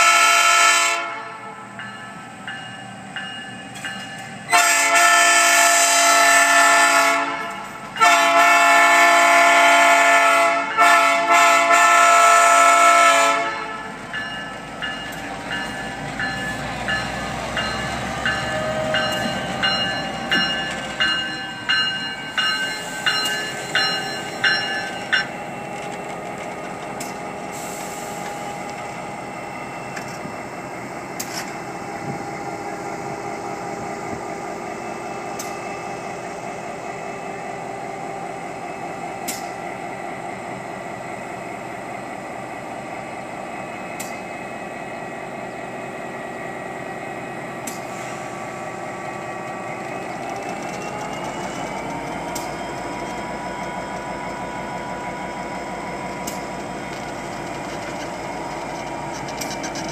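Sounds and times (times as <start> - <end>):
diesel locomotive engine running: 0.0 - 59.9.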